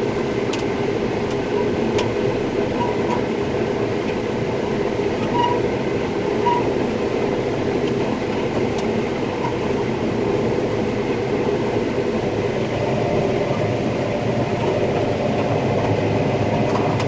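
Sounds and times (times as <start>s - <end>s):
combine harvester drone: 0.0s - 17.0s.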